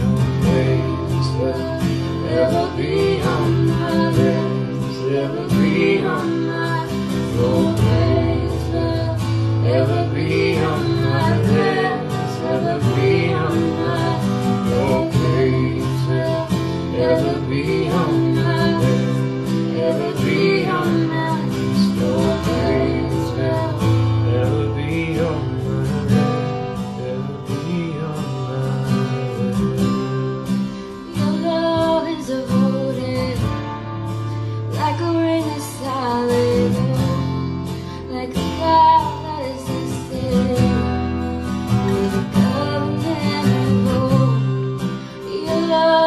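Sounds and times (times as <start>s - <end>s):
woman singing: 0.0s - 26.1s, 26.8s - 46.0s
acoustic guitar strumming: 0.0s - 46.0s.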